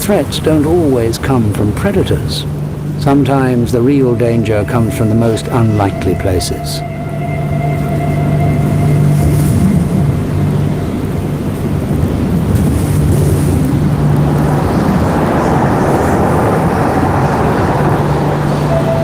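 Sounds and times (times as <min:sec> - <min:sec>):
heavy noisy rumble: 0:00.0 - 0:19.0
steady low drone: 0:00.0 - 0:19.0.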